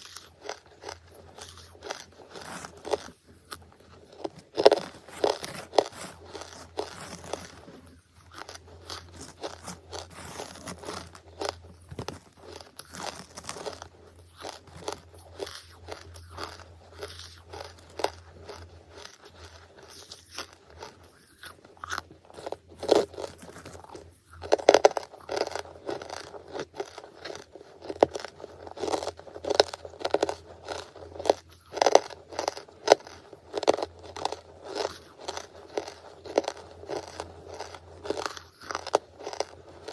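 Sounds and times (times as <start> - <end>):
crunchy chewing of charcoal: 0.0 - 39.9.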